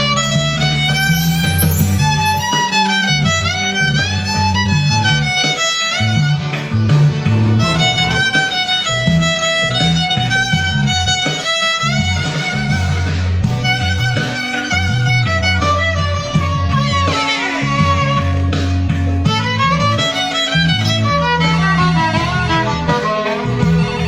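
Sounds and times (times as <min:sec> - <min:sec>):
bass line: 0:00.0 - 0:11.2, 0:11.8 - 0:24.0
violin melody with slides: 0:00.0 - 0:24.0.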